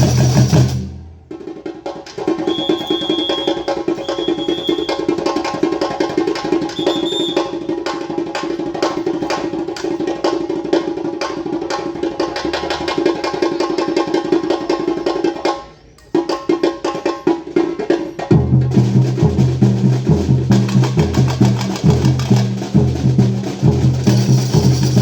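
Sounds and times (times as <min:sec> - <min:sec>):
fast steady percussion hits: 0:00.0 - 0:25.0.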